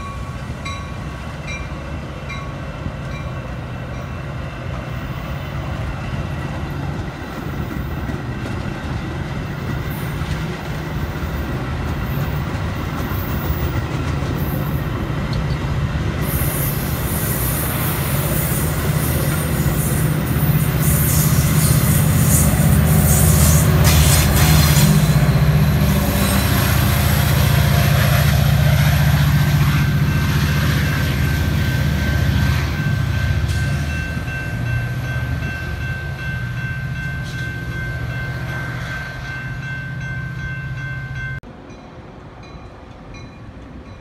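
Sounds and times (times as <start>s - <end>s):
diesel locomotive rumble: 0.0s - 43.9s
distant train: 0.0s - 44.0s.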